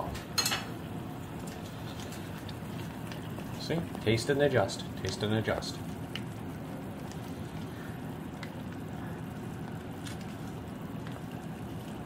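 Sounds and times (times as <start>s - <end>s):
sauce bubbling and sizzling: 0.7s - 12.0s.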